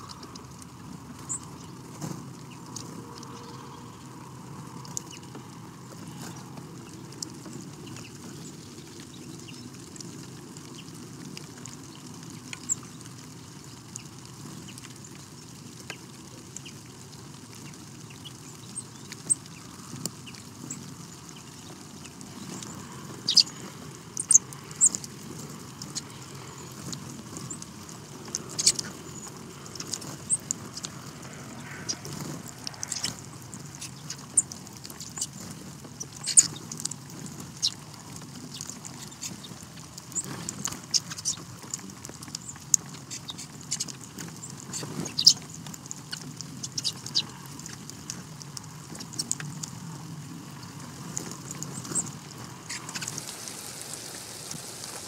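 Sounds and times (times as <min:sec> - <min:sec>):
birds pecking seeds: 0:00.0 - 0:55.0
low outdoor rumble: 0:00.0 - 0:55.0.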